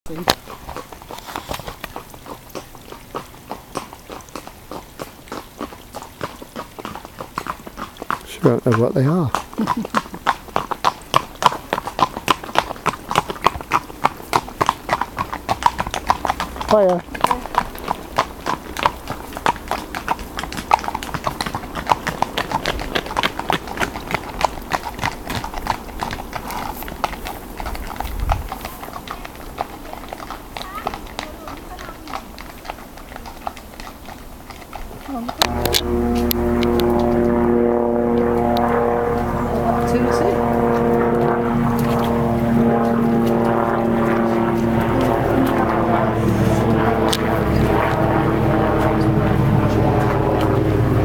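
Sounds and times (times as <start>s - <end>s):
hooves clip-clopping on pavement: 0.1s - 51.0s.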